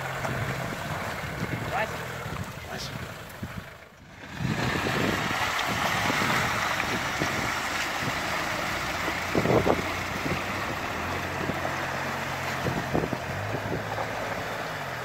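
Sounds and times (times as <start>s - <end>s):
car engine running: 0.0s - 15.0s
water splashing around wheels: 0.0s - 15.0s.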